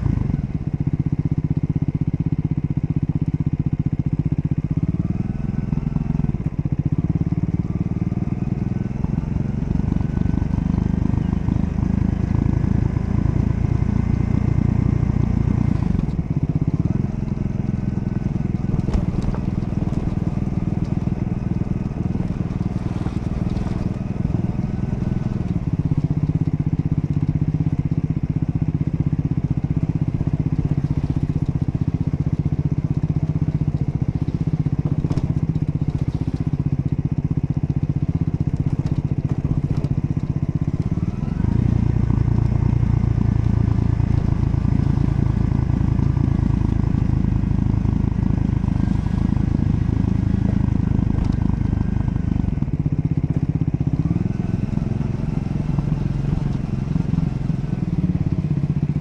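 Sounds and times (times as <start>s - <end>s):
motorcycle engine revving: 4.6s - 59.0s.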